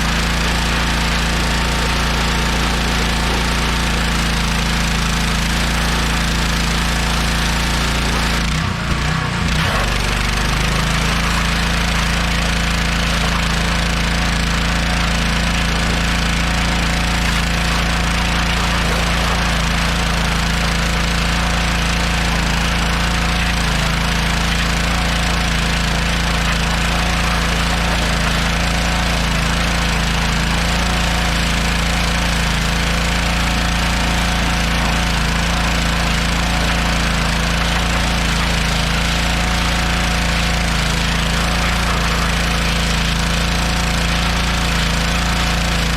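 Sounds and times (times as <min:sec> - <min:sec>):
pressure washer motor humming: 0:00.0 - 0:45.9.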